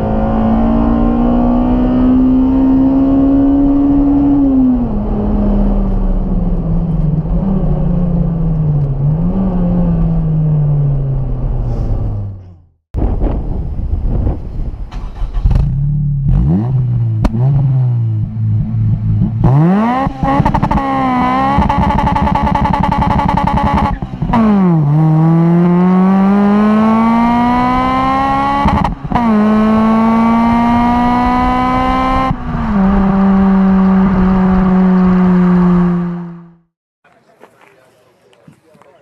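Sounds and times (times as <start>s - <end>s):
car engine accelerating hard: 0.0s - 12.5s, 15.1s - 36.7s.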